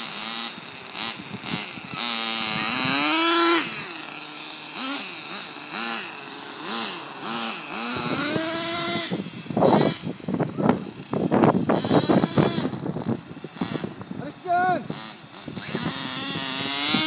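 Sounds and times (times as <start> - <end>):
model car engine revving: 0.0 - 17.0.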